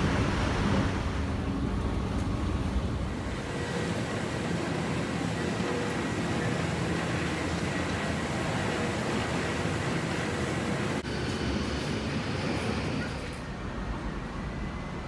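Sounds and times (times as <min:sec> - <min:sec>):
mechanical hum and hiss: 0:00.0 - 0:15.0.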